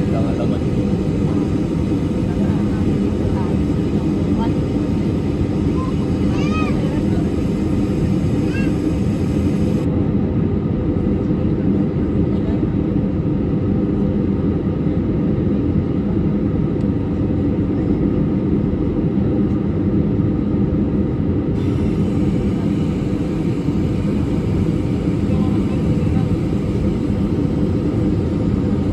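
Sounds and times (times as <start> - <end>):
airliner engine drone in cabin: 0.0 - 28.9.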